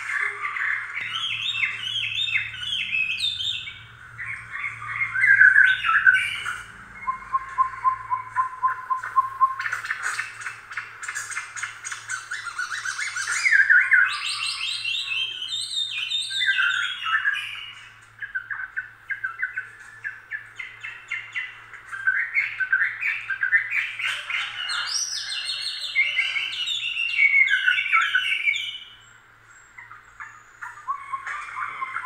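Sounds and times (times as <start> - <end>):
songbird chirping and trilling: 0.0 - 32.0.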